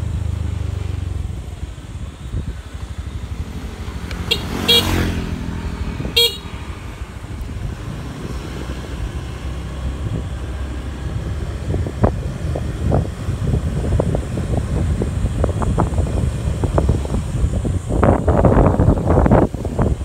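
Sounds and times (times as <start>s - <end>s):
motorbike rumble: 0.0s - 20.0s
wind buffeting microphone: 0.0s - 20.0s.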